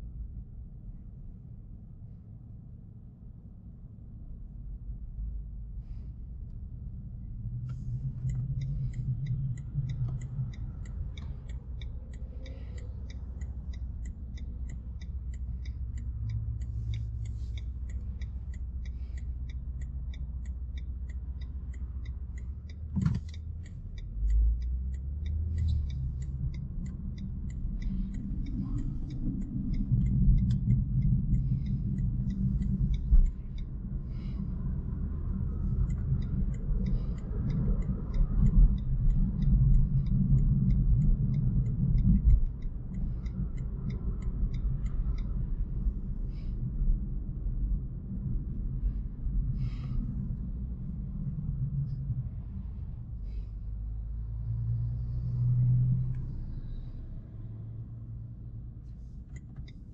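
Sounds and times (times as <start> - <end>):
road and tyre rumble in car cabin: 0.0 - 59.9
light regular ticking: 5.8 - 59.9.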